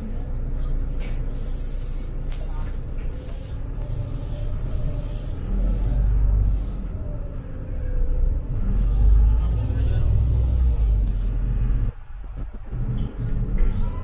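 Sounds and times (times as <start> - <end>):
bus engine rumble with whine: 0.0 - 14.0.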